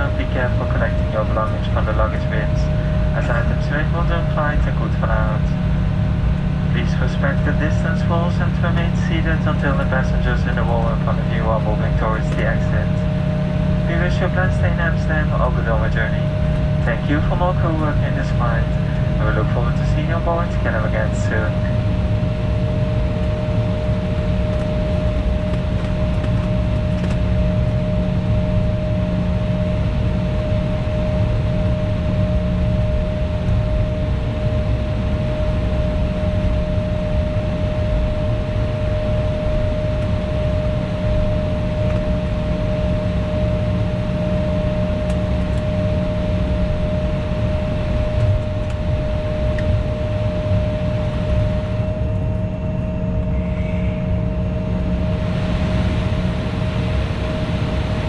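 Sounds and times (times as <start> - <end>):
airliner engines idling: 0.0 - 58.0.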